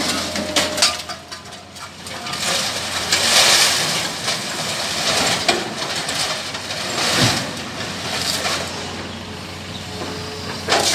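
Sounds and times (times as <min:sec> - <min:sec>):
scrap iron clattering in steel bin: 0:00.0 - 0:08.9, 0:10.7 - 0:10.9
excavator engine running: 0:00.0 - 0:10.9.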